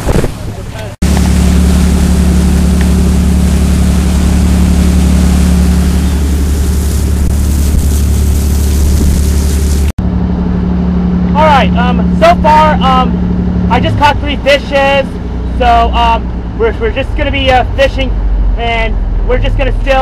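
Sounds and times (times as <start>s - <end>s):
boat engine drone: 0.0s - 20.0s
rushing boat wake: 0.0s - 20.0s
wind: 0.0s - 20.0s.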